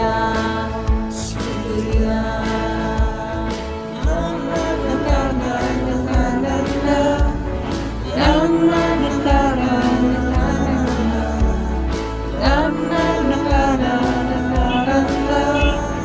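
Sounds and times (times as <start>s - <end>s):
backing track with steady beat: 0.0s - 16.0s
students singing: 0.0s - 16.0s
voice singing melody: 0.0s - 16.0s.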